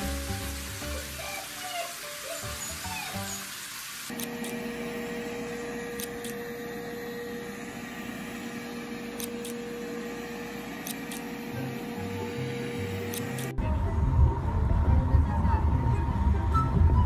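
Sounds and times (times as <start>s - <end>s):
motor-like hum: 2.6s - 17.0s.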